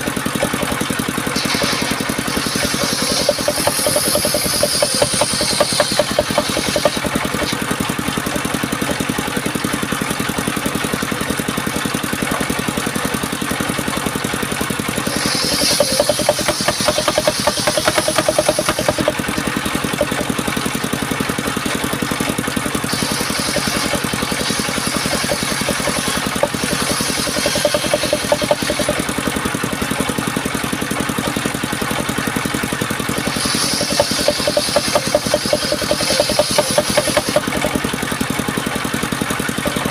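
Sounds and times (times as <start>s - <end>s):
saw blade cutting log: 0.0s - 39.9s
sawmill engine chugging: 0.0s - 39.9s.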